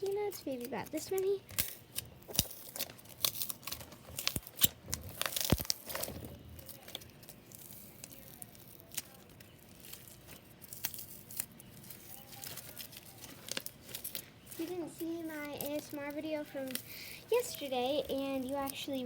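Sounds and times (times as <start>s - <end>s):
foam peanuts crushed in slime: 0.0s - 19.0s.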